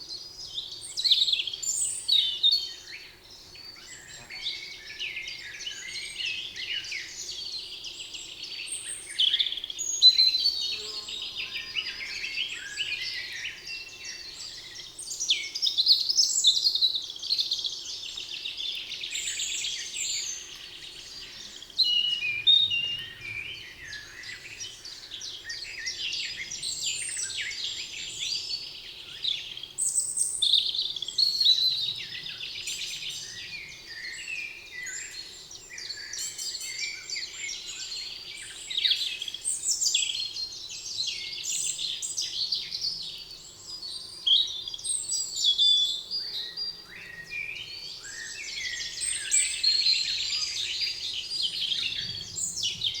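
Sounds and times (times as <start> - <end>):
songbirds chorus: 0.0 - 53.0.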